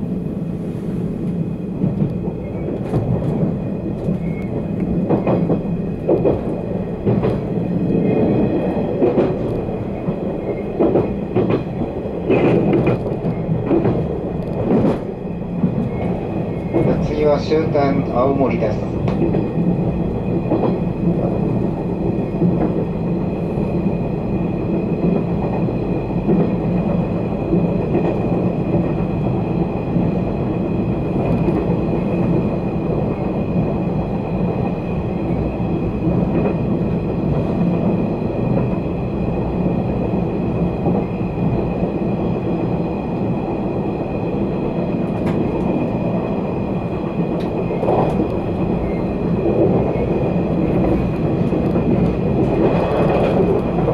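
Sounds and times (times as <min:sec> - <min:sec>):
rumble of train wheels on rail: 0:00.0 - 0:53.9.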